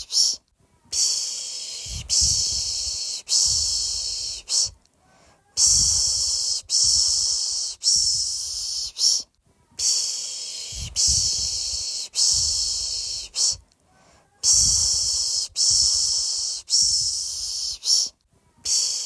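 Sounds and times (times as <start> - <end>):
person shushing: 0.0 - 4.8, 5.4 - 13.6, 14.2 - 19.0.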